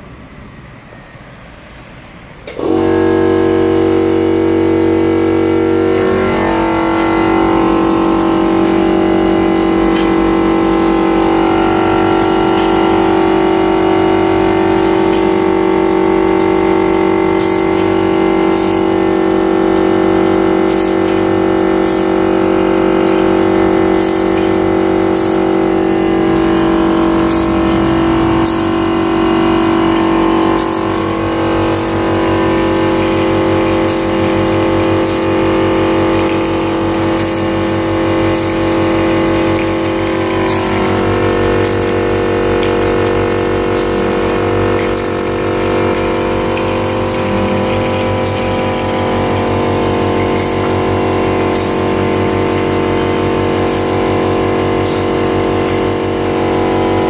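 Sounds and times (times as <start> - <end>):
machine motor hum and whine: 0.0 - 57.0.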